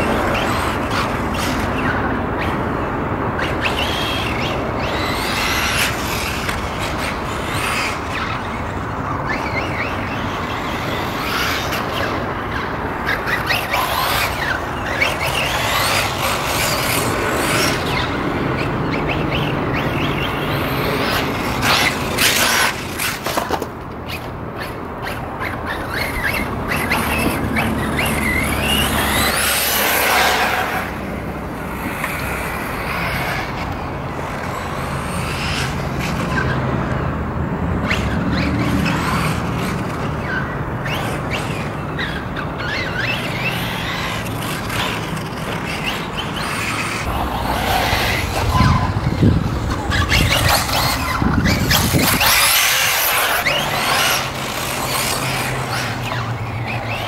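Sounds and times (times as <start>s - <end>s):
tyres on dirt: 0.0s - 57.0s.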